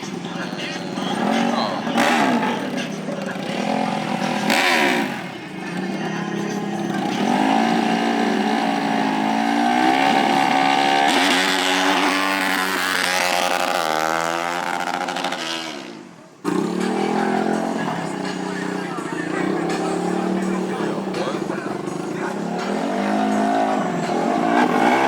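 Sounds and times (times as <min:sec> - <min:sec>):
off-road racing engines revving: 0:00.0 - 0:25.0.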